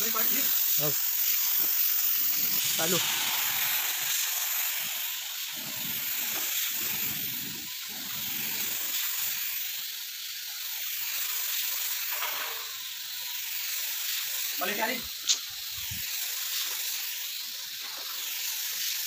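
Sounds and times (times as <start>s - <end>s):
paint spray gun hissing: 0.0s - 19.0s.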